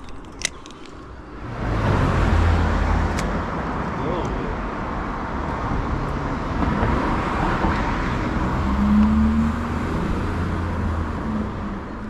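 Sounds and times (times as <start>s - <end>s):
traffic noise: 0.0s - 12.0s
vehicle passing close by: 1.4s - 4.0s, 4.6s - 11.8s.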